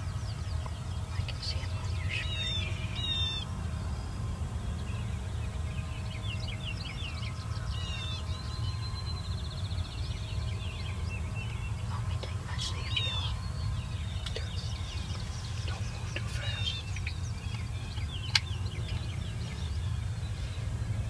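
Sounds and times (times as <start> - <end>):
songbirds chirping: 0.0 - 21.0
steady low rumble: 0.0 - 21.0.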